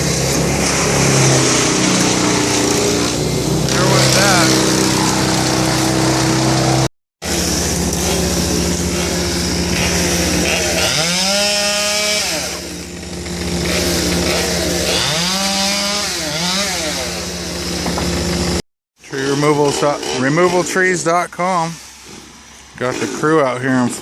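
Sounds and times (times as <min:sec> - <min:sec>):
chainsaw running and revving: 0:00.0 - 0:21.1.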